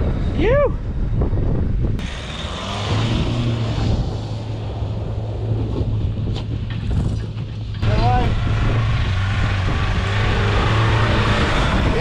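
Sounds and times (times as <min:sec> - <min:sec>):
vehicle engine droning under load: 0:00.0 - 0:12.0.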